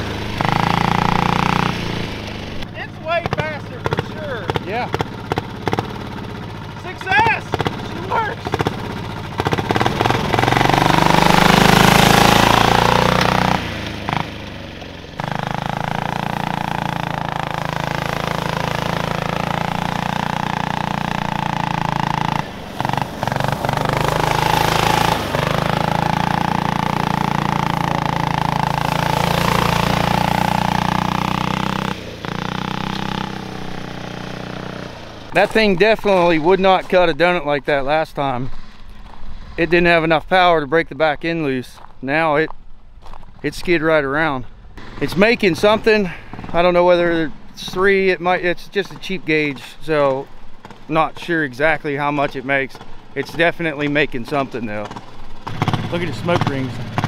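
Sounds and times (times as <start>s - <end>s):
go-kart engine revving: 0.0s - 40.1s, 44.8s - 57.0s.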